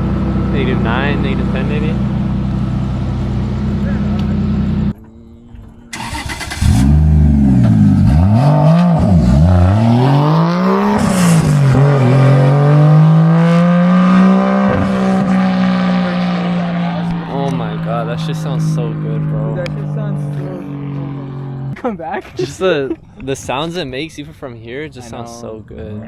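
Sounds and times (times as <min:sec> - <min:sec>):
car engine revving: 0:00.0 - 0:21.8.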